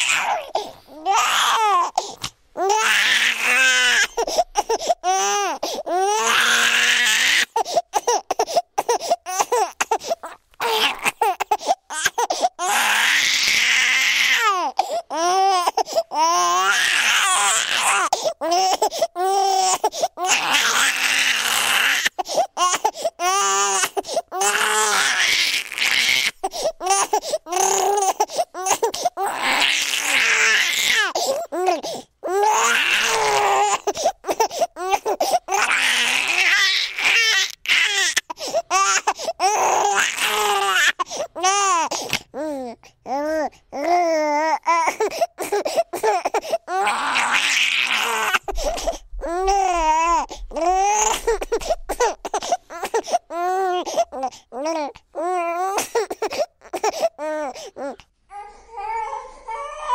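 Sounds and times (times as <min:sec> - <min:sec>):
newborn baby crying: 0:00.0 - 0:59.9.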